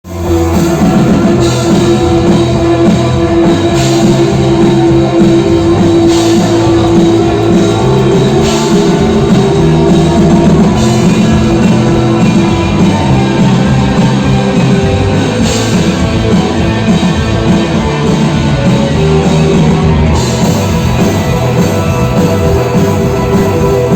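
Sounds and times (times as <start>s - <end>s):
live rock band playing: 0.0s - 23.9s.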